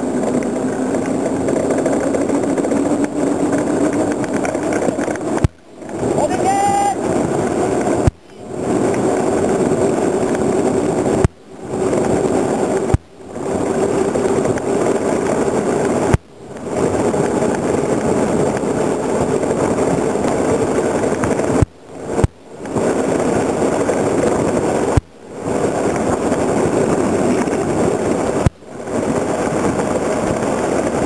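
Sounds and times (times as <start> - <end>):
cart wheels rumbling on wet asphalt: 0.0 - 31.0.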